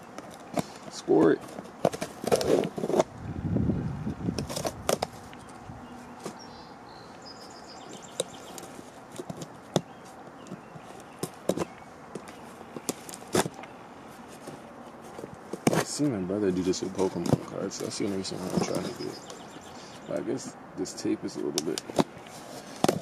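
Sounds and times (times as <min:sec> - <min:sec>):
cardboard and paper rustling: 0:00.0 - 0:03.1, 0:04.3 - 0:06.4, 0:07.9 - 0:20.5, 0:21.2 - 0:23.0.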